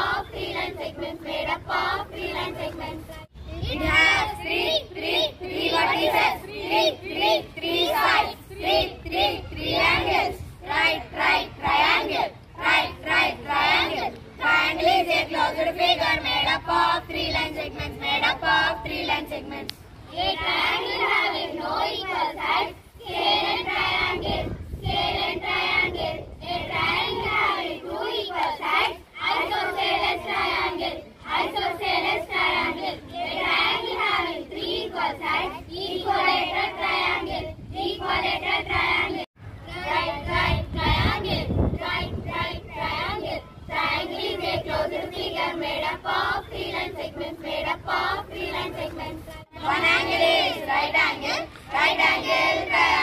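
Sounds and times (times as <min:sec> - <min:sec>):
schoolchildren chanting in unison: 0:00.0 - 0:53.0.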